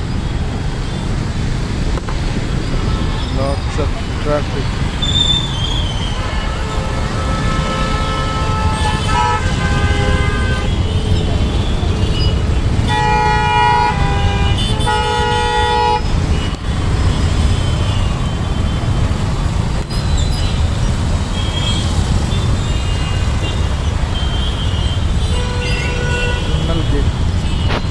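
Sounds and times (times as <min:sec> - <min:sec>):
rumble of traffic engines: 0:00.0 - 0:27.9
vehicle horns honking: 0:02.8 - 0:18.8, 0:21.3 - 0:27.9.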